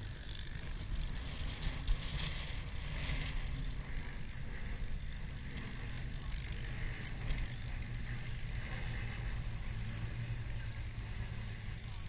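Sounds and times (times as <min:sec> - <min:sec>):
aircraft engines droning overhead: 0:00.0 - 0:12.0.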